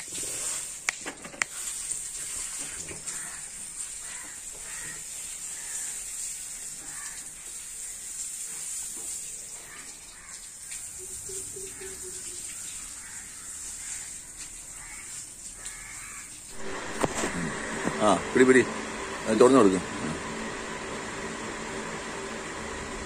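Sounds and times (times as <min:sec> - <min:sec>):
hose water spraying: 0:00.0 - 0:23.0.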